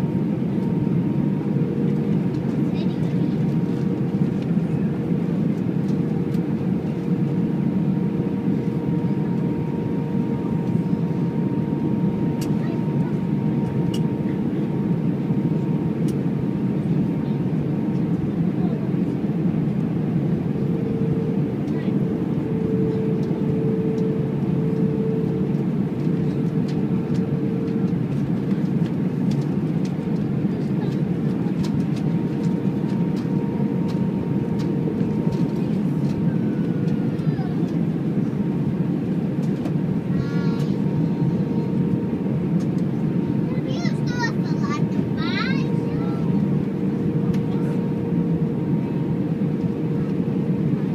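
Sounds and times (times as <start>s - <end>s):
airplane cabin engine drone: 0.0s - 50.9s.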